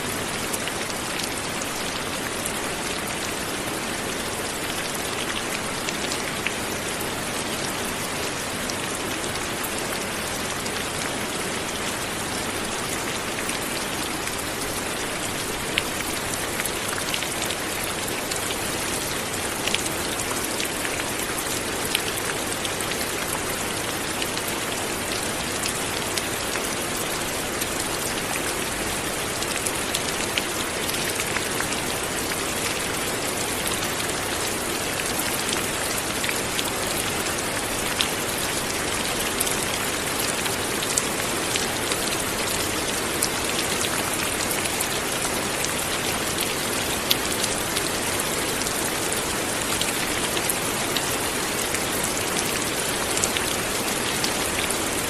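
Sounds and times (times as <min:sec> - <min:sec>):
light rain falling: 0:00.0 - 0:55.0
raindrops pattering on a surface: 0:00.0 - 0:55.0.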